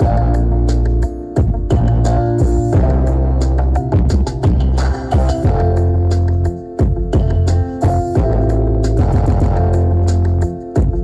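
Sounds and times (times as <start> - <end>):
loud dance music with heavy bass: 0.0 - 11.0.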